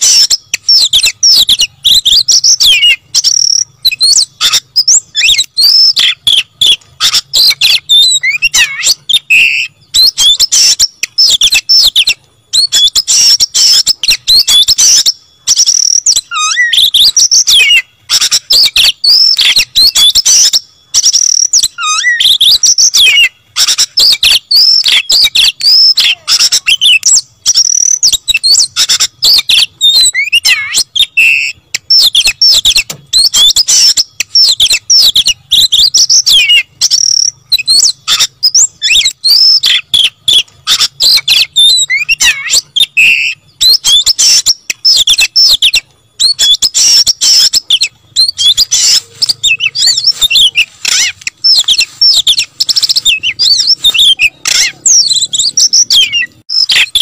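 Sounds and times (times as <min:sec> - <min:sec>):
bird singing loudly: 0:00.0 - 0:57.0.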